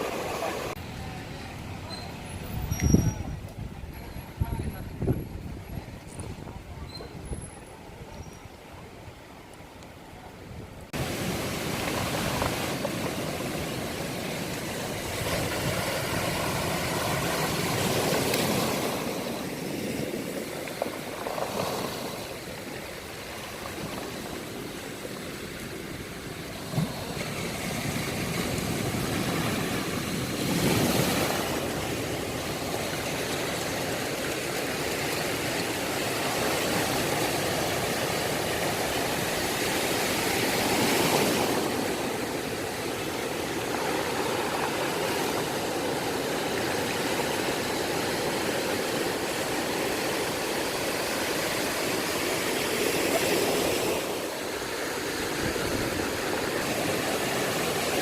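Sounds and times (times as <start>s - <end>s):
sea surf washing on beach: 0.0s - 2.3s, 10.5s - 58.0s.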